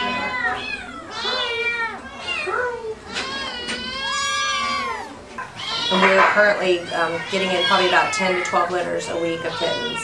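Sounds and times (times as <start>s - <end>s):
kittens meowing: 0.0s - 10.0s.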